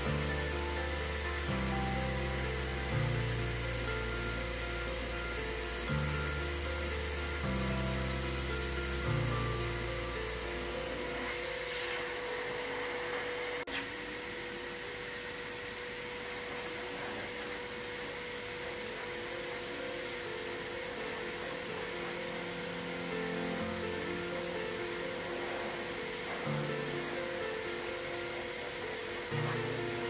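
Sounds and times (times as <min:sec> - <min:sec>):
pet blower dryer whining: 0:00.0 - 0:30.0.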